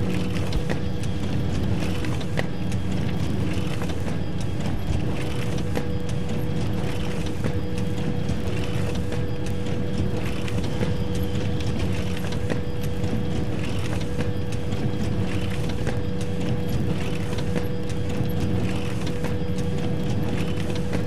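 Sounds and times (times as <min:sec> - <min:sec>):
photocopier humming: 0:00.0 - 0:21.0.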